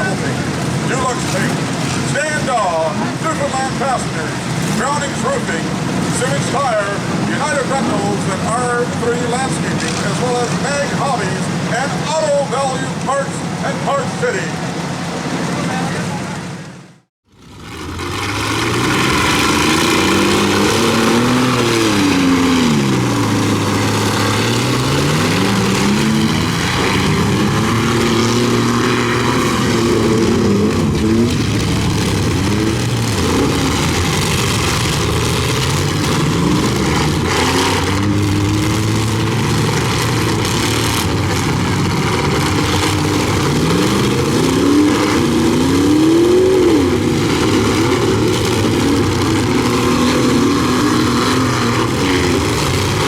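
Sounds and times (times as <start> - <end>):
truck engines revving hard: 0.0 - 53.0.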